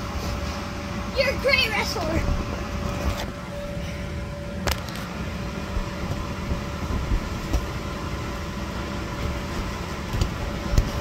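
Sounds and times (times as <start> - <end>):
electric blower droning: 0.0 - 11.0.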